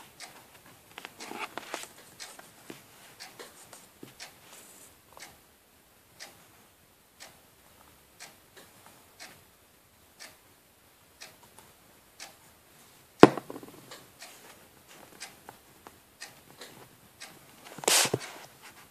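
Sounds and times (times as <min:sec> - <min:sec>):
clock ticking: 0:00.0 - 0:02.6, 0:03.2 - 0:04.4, 0:05.1 - 0:18.4.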